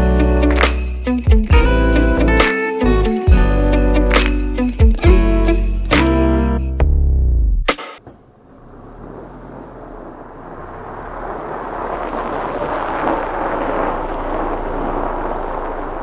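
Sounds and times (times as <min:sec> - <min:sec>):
snowplow truck rushing noise: 0:00.0 - 0:06.2, 0:08.0 - 0:16.0.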